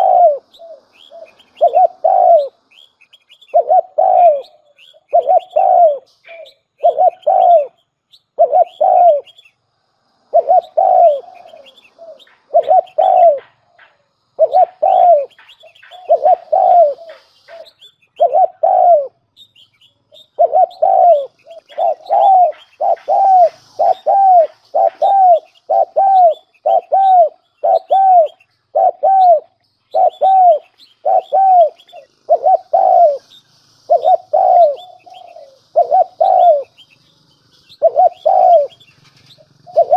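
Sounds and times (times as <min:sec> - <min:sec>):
dove cooing: 0:00.0 - 0:02.6, 0:03.5 - 0:07.8, 0:08.4 - 0:09.4, 0:10.3 - 0:19.2, 0:20.1 - 0:36.9, 0:37.7 - 0:39.9.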